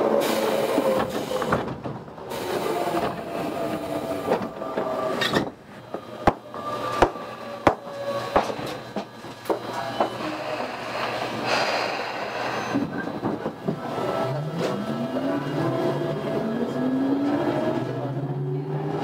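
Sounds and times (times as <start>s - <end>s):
train car interior hum: 0.0s - 18.2s.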